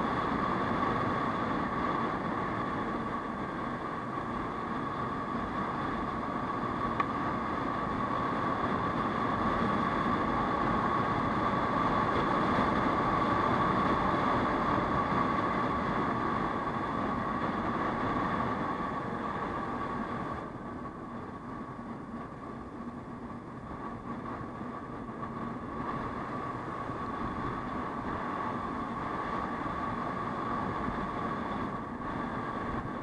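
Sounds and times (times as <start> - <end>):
tyres on road: 0.0 - 33.0.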